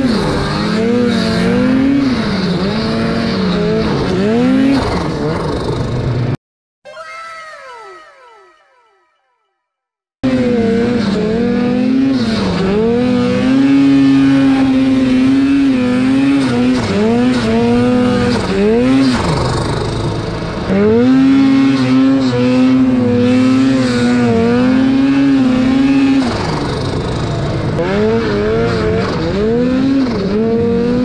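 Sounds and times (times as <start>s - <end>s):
snowmobile engine revving: 0.0s - 6.3s, 10.2s - 31.0s.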